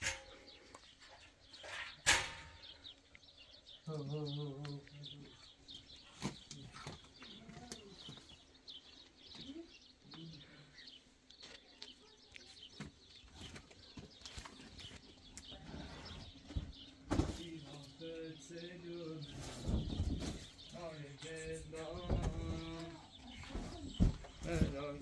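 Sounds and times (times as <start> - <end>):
small birds chirping faintly: 0.0 - 25.0.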